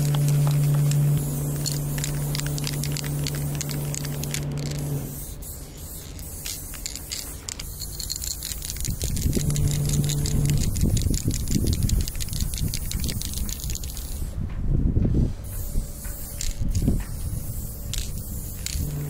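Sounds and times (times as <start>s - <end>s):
small clicks and scrapes: 0.0s - 14.3s, 15.5s - 19.0s
aerosol spray can hissing: 0.0s - 14.4s, 15.5s - 19.0s
steady low hum: 0.0s - 19.0s.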